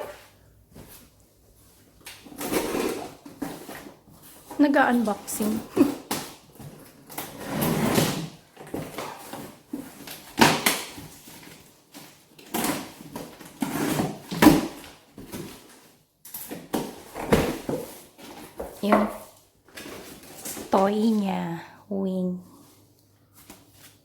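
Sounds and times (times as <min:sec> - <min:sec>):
packaging rustling: 0:02.0 - 0:21.3.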